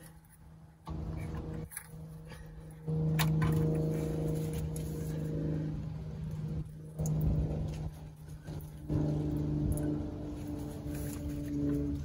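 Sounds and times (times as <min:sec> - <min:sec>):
music of held low notes: 0:00.0 - 0:12.0.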